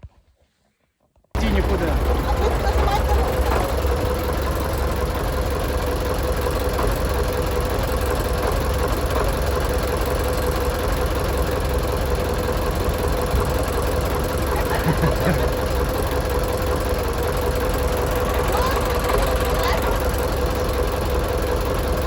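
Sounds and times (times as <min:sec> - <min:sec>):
engine idling: 0:01.4 - 0:22.0.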